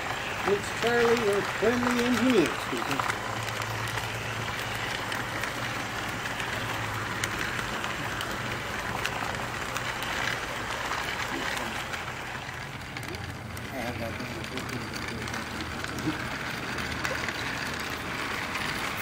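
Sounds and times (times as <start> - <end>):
model train humming: 0.0 - 19.0.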